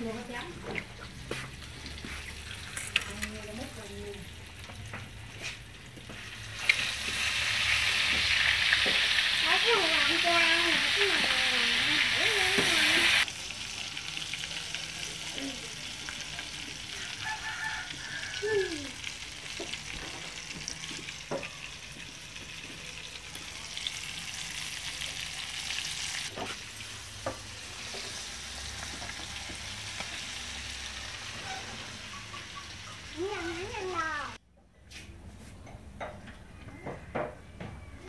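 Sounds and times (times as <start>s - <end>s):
food sizzling in hot oil: 0.0s - 34.4s
oil crackling: 0.8s - 32.0s.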